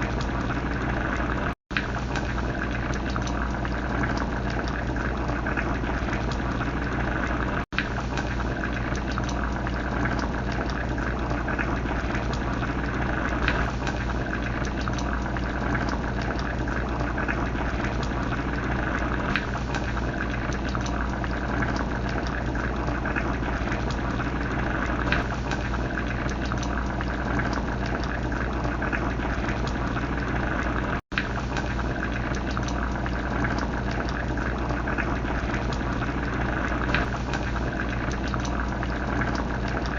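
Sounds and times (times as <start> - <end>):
soup bubbling in a pot: 0.0 - 39.9.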